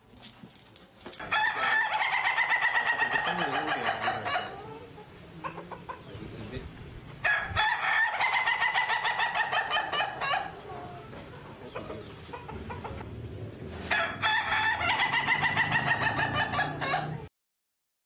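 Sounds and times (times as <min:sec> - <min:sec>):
roosters crowing: 0:01.2 - 0:06.2, 0:07.1 - 0:17.3.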